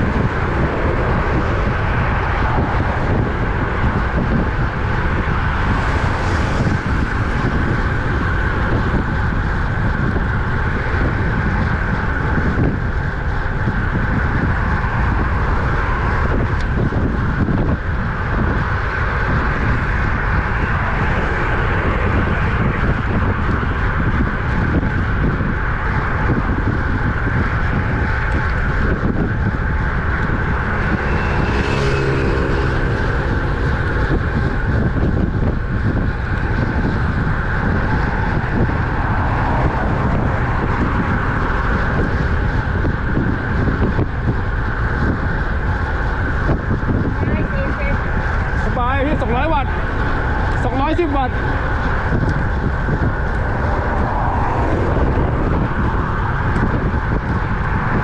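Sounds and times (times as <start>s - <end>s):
tyre and road noise: 0.0s - 58.0s
wind rush on microphone: 0.0s - 58.0s.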